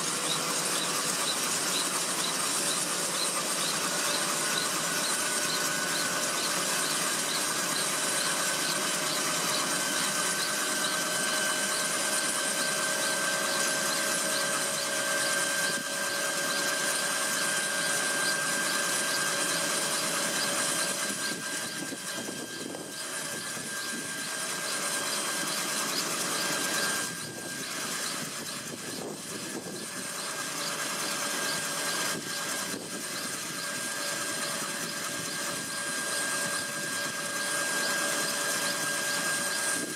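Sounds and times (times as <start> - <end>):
helicopter engine whine: 0.0 - 39.9
rush of spinning rotor blades: 0.0 - 39.9.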